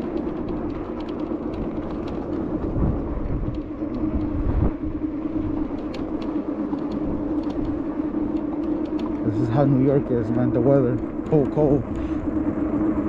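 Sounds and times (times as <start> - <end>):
road rumble: 0.0 - 13.0
steady hum: 0.0 - 13.0
wind buffeting microphone: 0.0 - 13.0.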